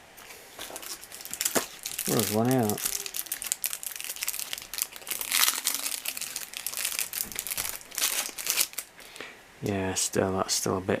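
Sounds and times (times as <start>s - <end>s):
packaging crinkling: 0.2s - 9.1s.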